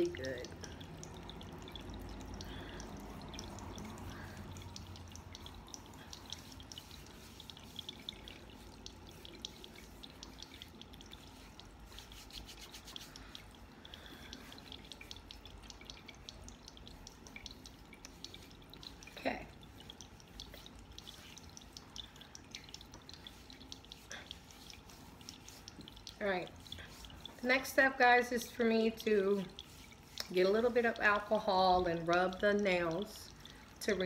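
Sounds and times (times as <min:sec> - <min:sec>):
steady low hum: 0:00.0 - 0:34.0
water fountain trickling: 0:00.0 - 0:34.0.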